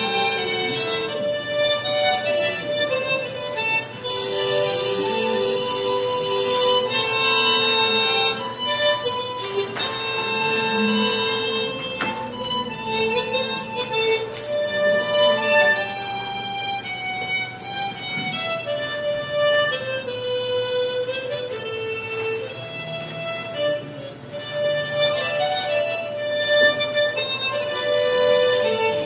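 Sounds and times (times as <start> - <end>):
harmonica duet: 0.0 - 29.0.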